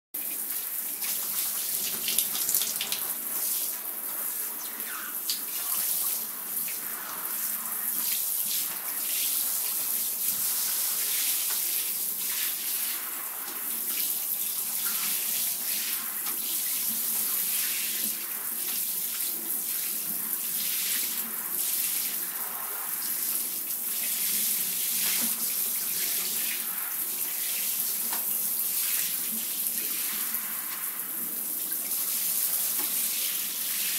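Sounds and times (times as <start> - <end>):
water pouring into bathtub: 0.2 - 33.9.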